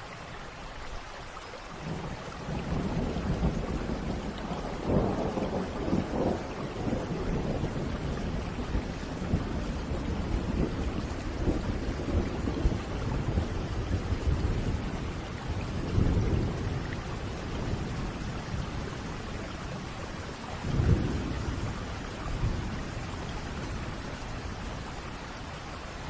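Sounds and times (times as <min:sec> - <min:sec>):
steady rain: 0:00.0 - 0:26.0
thunder rumbling: 0:01.8 - 0:25.5.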